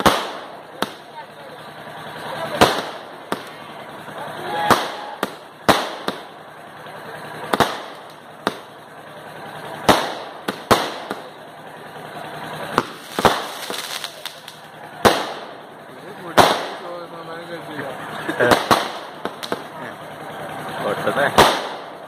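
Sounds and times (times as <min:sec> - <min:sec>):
fireworks bangs: 0:00.0 - 0:19.8, 0:20.5 - 0:22.0
fireworks crackling: 0:00.0 - 0:22.0.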